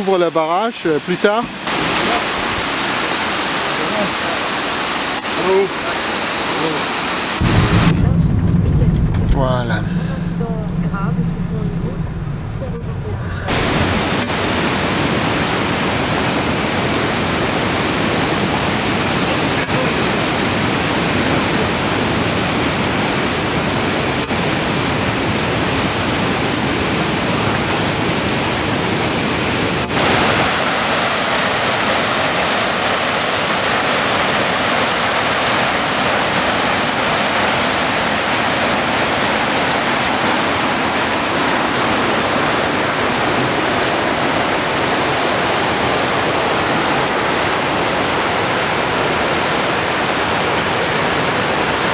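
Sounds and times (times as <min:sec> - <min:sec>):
river rushing through rapids: 0:00.0 - 0:07.9, 0:13.1 - 0:51.9
water rushing down channel: 0:00.0 - 0:51.9.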